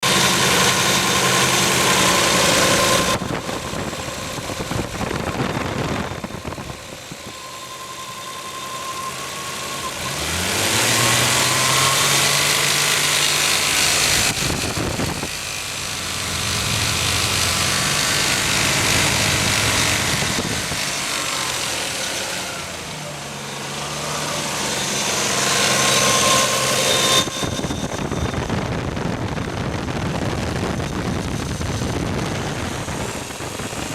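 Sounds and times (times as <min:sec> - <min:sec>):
car engine revving: 0:00.0 - 0:33.9
engine rattle: 0:00.0 - 0:33.9.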